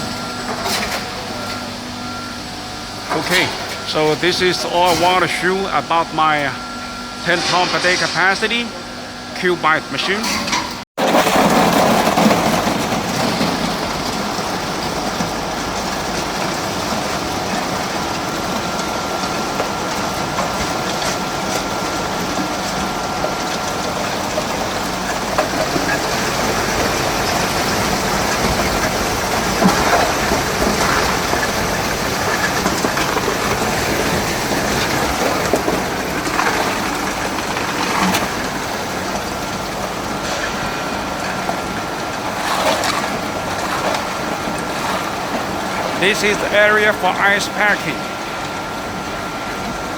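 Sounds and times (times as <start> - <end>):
ice machine running: 2.9 - 6.6, 9.4 - 49.9.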